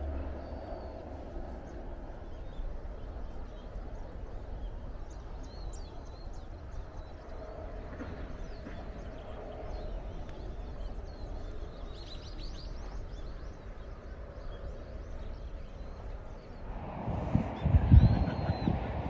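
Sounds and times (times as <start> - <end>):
low rush of outdoor noise: 0.0 - 19.0.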